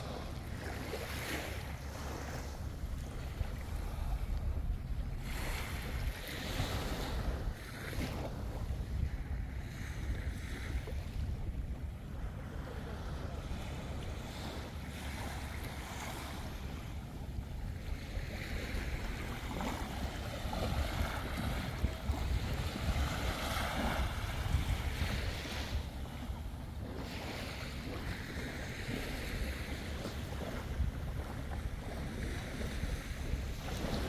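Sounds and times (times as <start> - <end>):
sea waves washing: 0.0 - 34.0
wind rumbling on microphone: 0.0 - 34.0.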